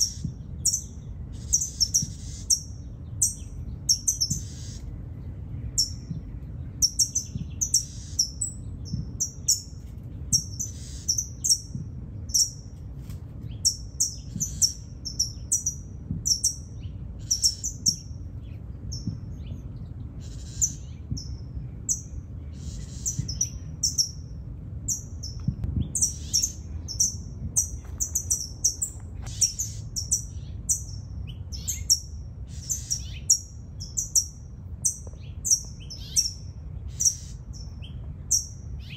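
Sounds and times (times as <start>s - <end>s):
low steady rumble: 0.0s - 38.9s
small birds chirping: 0.0s - 38.9s.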